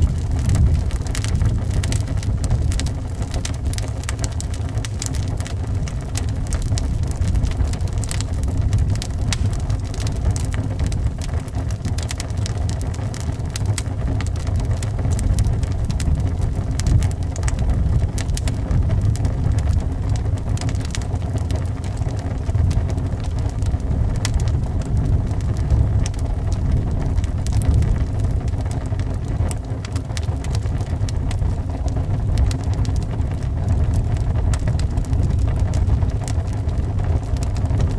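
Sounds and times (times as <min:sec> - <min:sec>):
wind rumbling: 0:00.0 - 0:37.9
wood fire crackling: 0:00.0 - 0:37.9.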